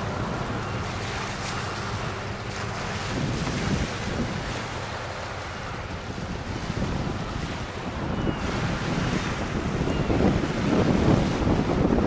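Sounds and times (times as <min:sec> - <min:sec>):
low ship engine drone: 0:00.0 - 0:12.0
wind buffeting microphone: 0:00.0 - 0:12.0.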